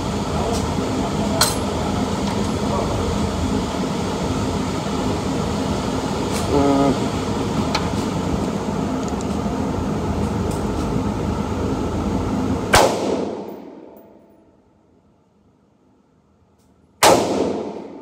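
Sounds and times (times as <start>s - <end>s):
ventilation system rushing: 0.0s - 15.5s.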